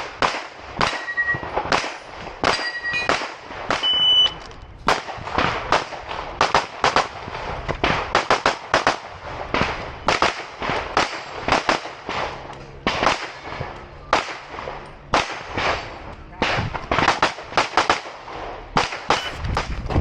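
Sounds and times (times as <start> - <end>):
rapid pistol shots: 0.0 - 3.9, 4.9 - 19.7.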